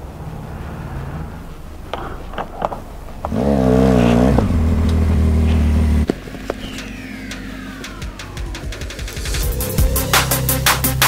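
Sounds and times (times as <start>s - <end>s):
motorcycle engine: 0.0s - 10.0s.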